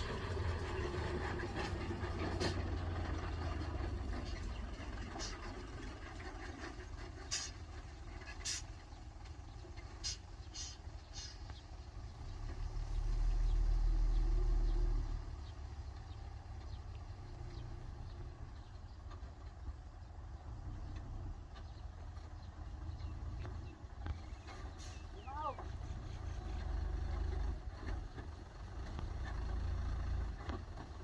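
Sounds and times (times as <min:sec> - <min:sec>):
heavy diesel machinery rumbling: 0:00.0 - 0:31.0.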